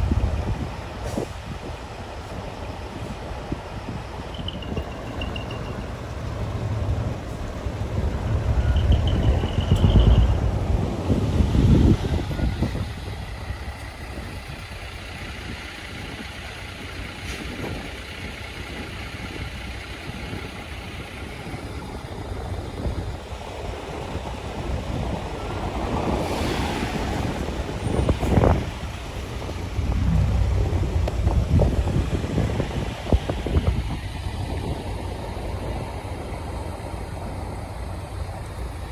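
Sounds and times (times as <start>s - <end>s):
truck engine rumble: 0.0s - 38.9s.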